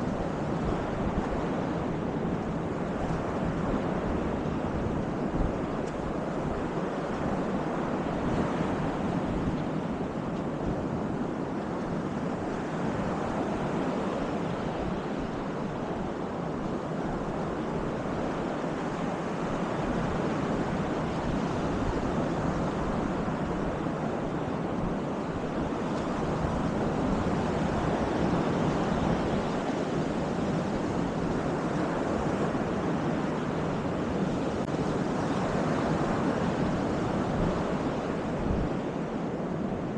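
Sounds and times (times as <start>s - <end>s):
waves breaking on beach: 0.0s - 39.9s
wind buffeting microphone: 0.0s - 39.9s.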